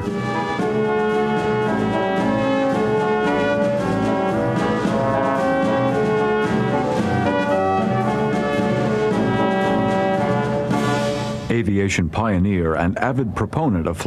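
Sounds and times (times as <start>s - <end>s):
brass band playing: 0.0s - 11.6s.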